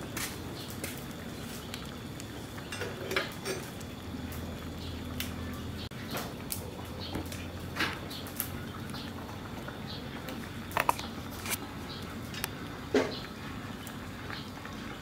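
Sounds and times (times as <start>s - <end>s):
soup simmering: 0.0s - 15.0s.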